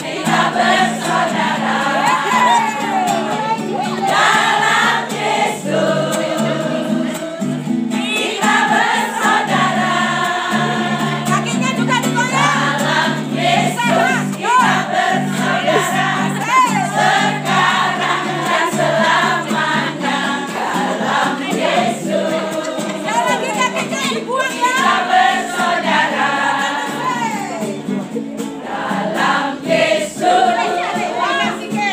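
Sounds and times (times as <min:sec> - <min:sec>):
women singing in unison: 0:00.0 - 0:27.7, 0:28.6 - 0:31.9
strummed acoustic guitar: 0:00.0 - 0:31.9.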